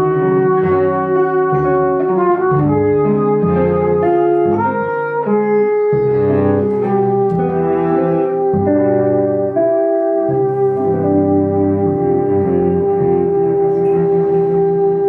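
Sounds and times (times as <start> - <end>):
brass horn playing jazz: 0.0 - 15.0
electric guitar playing jazz: 0.0 - 15.0.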